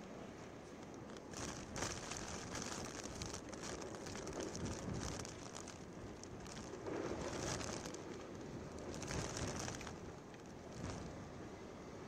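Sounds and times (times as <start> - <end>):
rushing wind: 0.5 - 12.0
heavy rain patter: 1.0 - 11.2.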